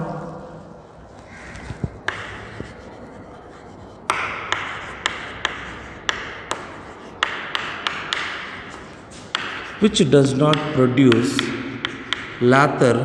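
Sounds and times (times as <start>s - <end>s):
chalk scratching strokes: 0.0s - 12.5s
chalk tapping on chalkboard: 0.6s - 12.6s.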